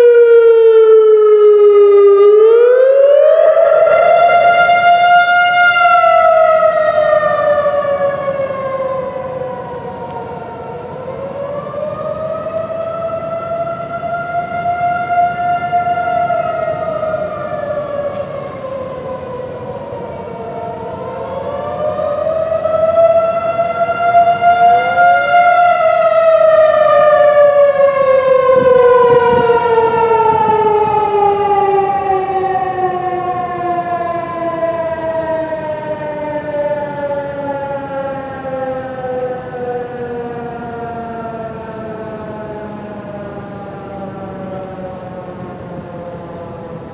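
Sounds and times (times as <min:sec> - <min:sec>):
warning siren wailing: 0:00.0 - 0:46.9.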